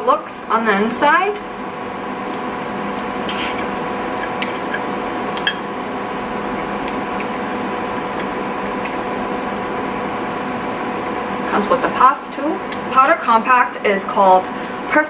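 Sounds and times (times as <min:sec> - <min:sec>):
appliance hum: 0:00.0 - 0:15.0.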